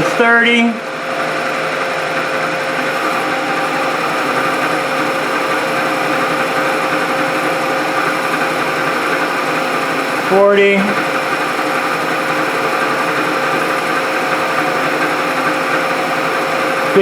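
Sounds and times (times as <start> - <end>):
milling machine cutting metal: 0.0 - 17.0.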